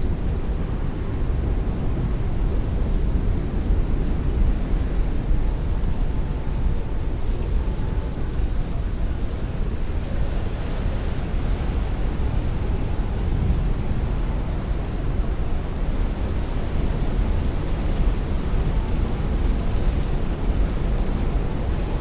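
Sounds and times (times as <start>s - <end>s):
heavy rain on a window: 0.2s - 22.0s.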